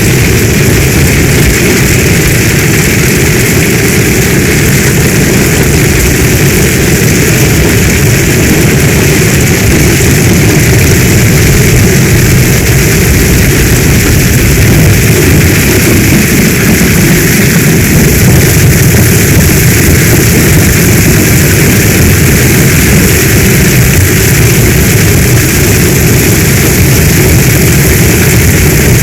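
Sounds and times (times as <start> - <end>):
deep rumble: 0.0 - 29.0
heavy rain hiss: 0.0 - 29.0.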